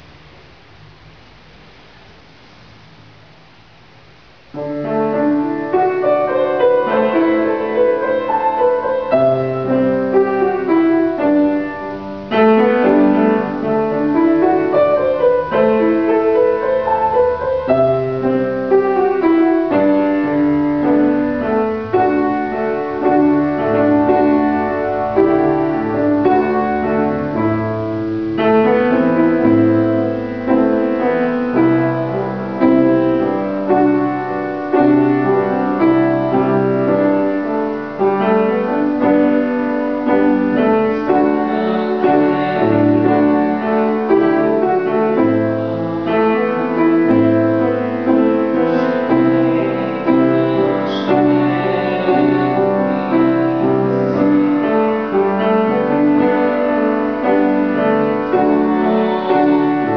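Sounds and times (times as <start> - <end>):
grand piano playing: 4.5 - 59.9.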